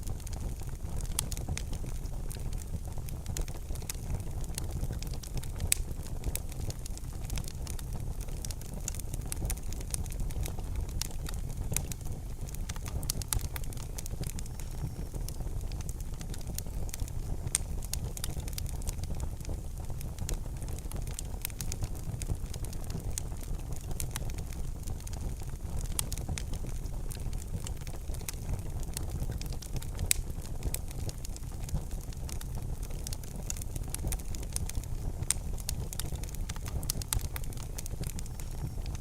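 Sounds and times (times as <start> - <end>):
fire crackling and popping: 0.0 - 39.0
fire low rumble: 0.0 - 39.0.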